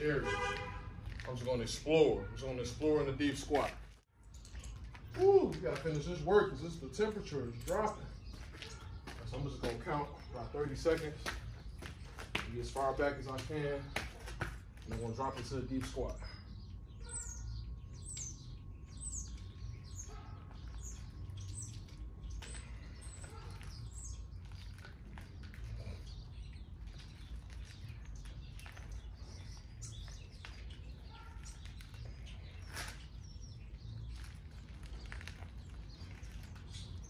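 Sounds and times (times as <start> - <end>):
small birds chirping: 0.9 - 37.0.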